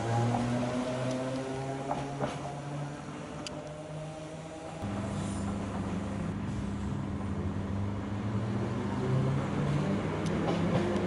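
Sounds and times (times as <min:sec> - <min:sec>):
electric train hum and rumble: 0:00.0 - 0:11.0.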